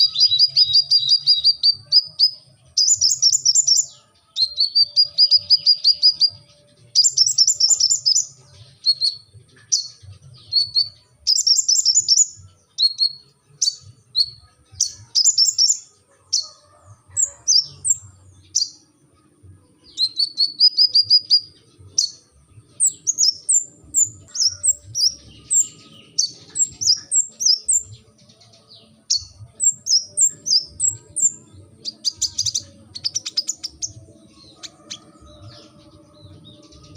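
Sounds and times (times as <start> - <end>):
sunbird singing trills and chirps: 0.0 - 36.9.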